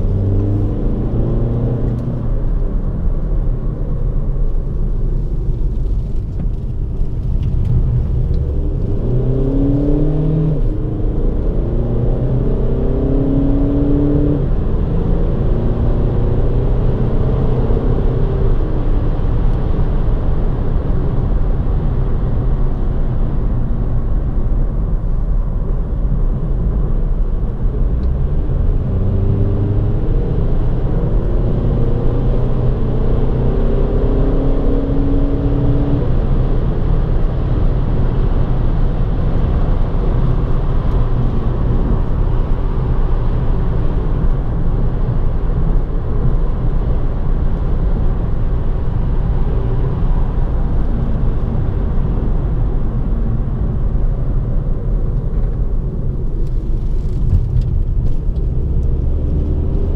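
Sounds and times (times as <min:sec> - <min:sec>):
tyre and road noise: 0:00.0 - 0:15.0, 0:25.7 - 0:59.9
diesel car engine from inside cabin: 0:00.0 - 0:59.9.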